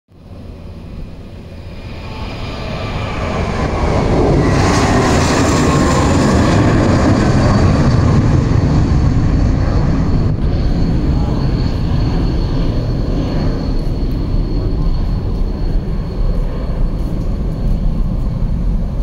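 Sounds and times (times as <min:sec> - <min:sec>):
high whine: 0:00.1 - 0:19.0
jet airliner engine rumble: 0:00.1 - 0:19.0.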